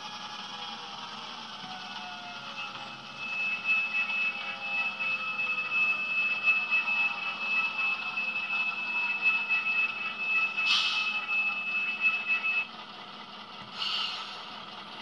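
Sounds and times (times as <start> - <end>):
model locomotive diesel engine sound: 0.0 - 15.0
steady high whine: 0.0 - 15.0.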